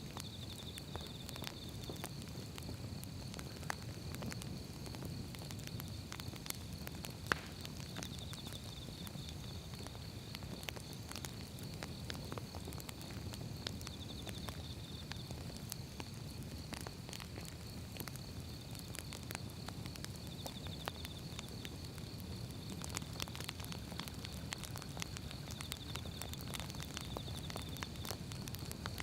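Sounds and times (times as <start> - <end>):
firewood crackling and popping: 0.0 - 29.0
low rumble of flames: 0.0 - 29.0.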